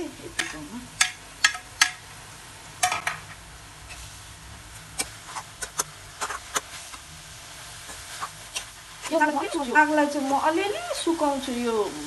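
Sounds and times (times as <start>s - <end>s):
greens sizzling in oil: 0.0s - 12.0s.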